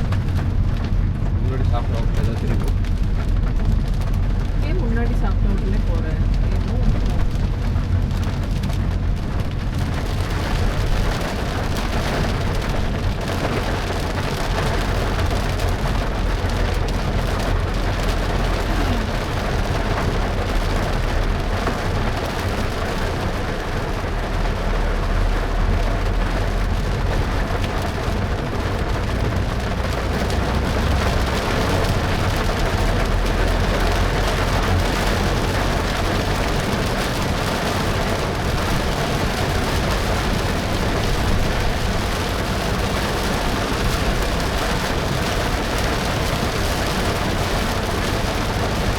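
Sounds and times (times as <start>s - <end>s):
tyres and engine rumbling: 0.0s - 48.9s
heavy rain hissing: 4.6s - 48.9s.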